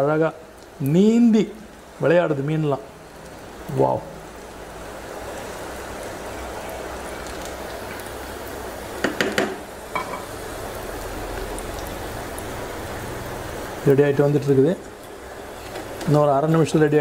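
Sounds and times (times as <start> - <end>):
shallots sizzling in hot oil: 0.0 - 17.0.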